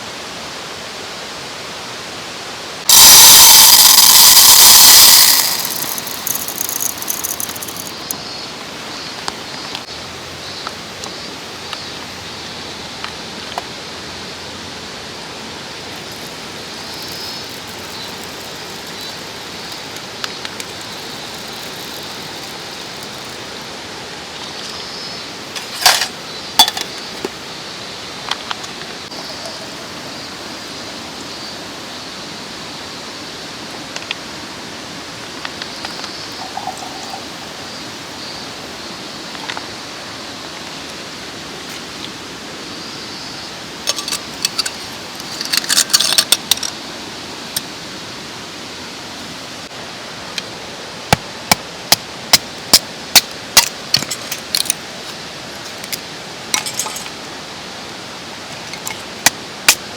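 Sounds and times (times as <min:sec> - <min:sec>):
mountain stream flowing: 0:00.0 - 0:59.9.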